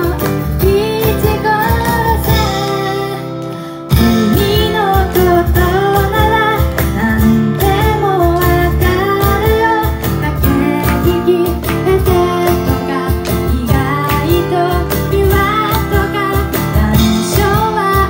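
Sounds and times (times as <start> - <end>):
strummed acoustic guitar: 0.0 - 18.0
woman singing: 0.0 - 18.0.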